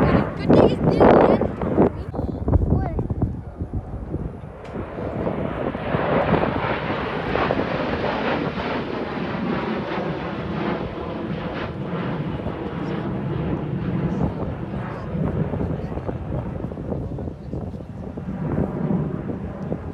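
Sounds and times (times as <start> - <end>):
jet aircraft roar: 0.0 - 19.9.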